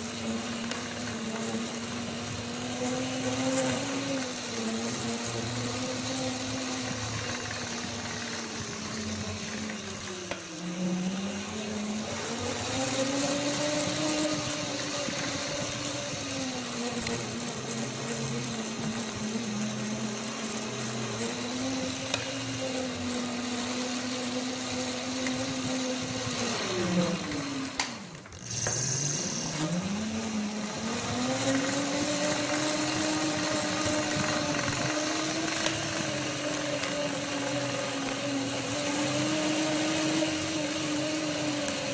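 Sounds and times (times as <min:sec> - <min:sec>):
motor whining: 0:00.0 - 0:41.9.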